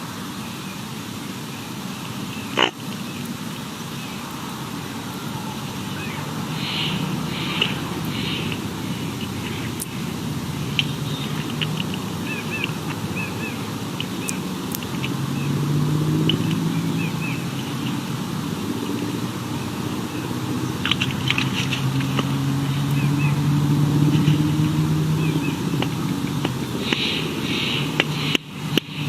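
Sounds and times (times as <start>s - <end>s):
small birds chirping: 0.0s - 29.0s
vehicle engine running: 0.0s - 29.0s.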